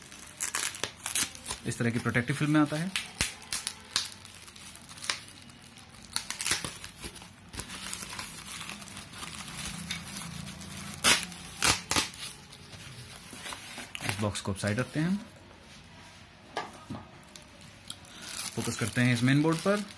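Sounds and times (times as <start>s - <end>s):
plastic packaging crinkling: 0.0s - 15.4s, 17.2s - 19.9s.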